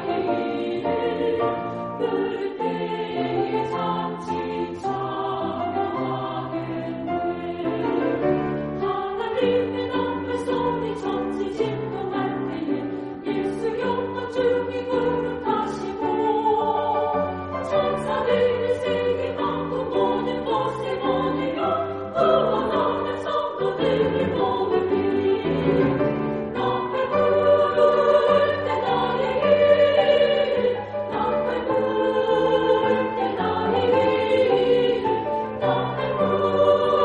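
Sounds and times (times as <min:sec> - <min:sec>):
women's choir singing: 0:00.0 - 0:37.0.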